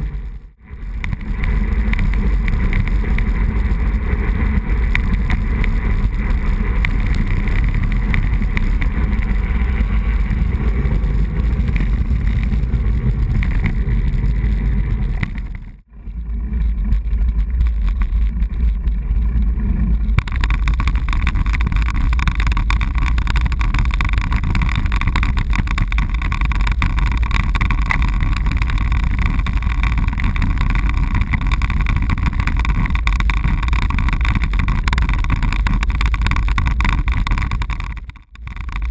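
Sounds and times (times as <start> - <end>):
bicycle on cobblestones: 0.0 - 38.9
wind and road noise rumble: 0.0 - 38.9.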